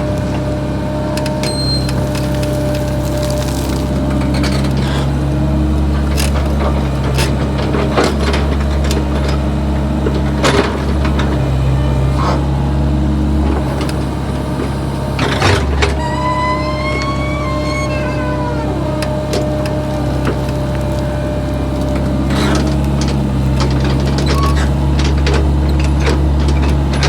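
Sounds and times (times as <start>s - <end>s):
backhoe engine running: 0.0s - 27.0s.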